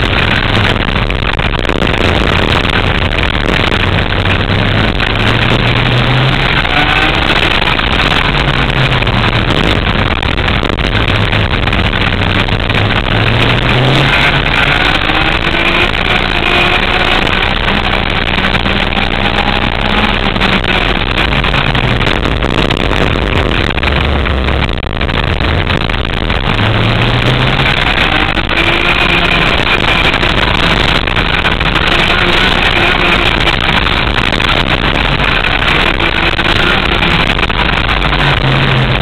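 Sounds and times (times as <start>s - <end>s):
go-kart engine revving: 0.0s - 39.0s
heavy rushing noise: 0.0s - 39.0s.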